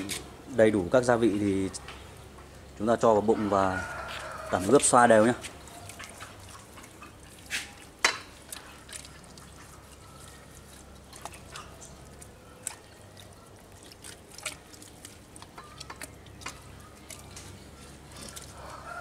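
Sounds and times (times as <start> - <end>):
hands rubbing wet marinade: 2.9 - 18.9.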